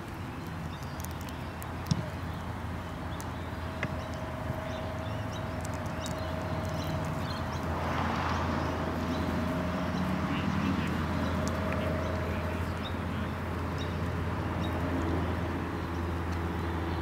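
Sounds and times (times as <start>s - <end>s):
bird bill scratching soil: 0.0s - 15.4s.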